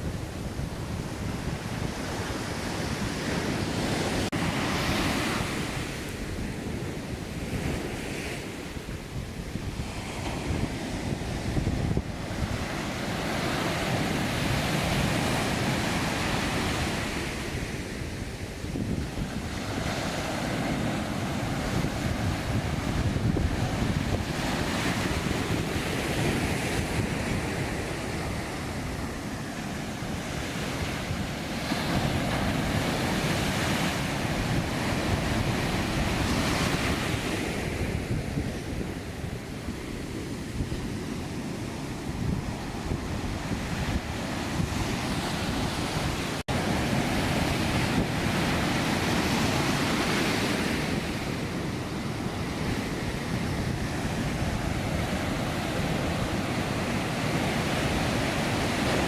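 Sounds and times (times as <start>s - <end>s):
heavy surf breaking on beach: 0.0s - 59.0s.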